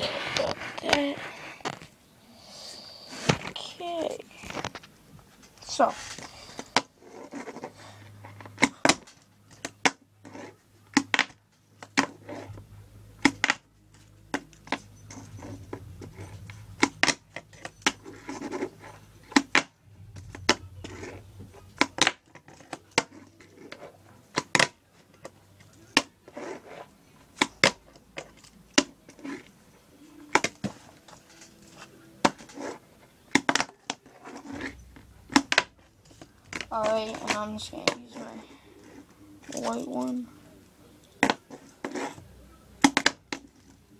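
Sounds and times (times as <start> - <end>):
faint low hum: 0.0 - 43.9.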